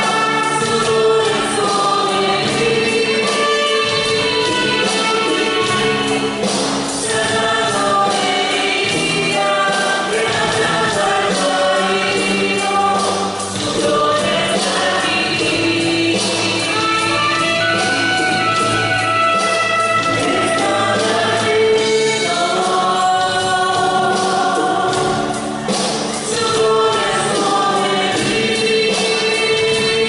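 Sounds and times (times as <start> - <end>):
choir singing worship song: 0.0 - 30.0
instrumental accompaniment with beat: 0.0 - 30.0.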